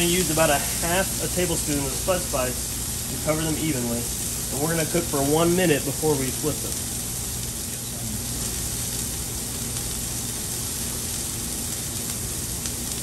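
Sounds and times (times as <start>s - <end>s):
low steady hum: 0.0s - 13.0s
peppers sizzling in oil: 0.0s - 13.0s.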